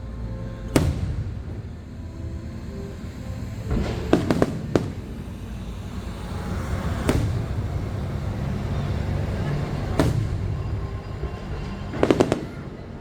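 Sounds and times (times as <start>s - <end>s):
sharp firework bangs: 0.8s - 2.0s, 3.7s - 12.9s.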